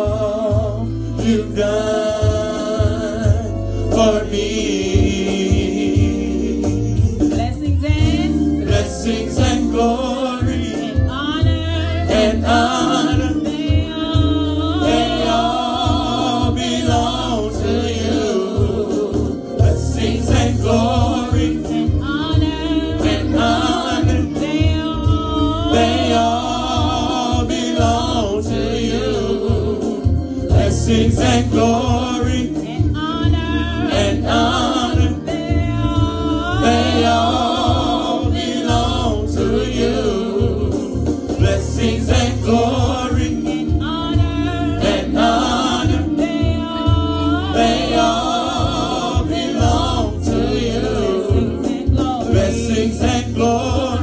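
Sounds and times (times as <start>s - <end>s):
group singing worship song: 0.0s - 54.0s
low instrumental accompaniment: 0.0s - 54.0s.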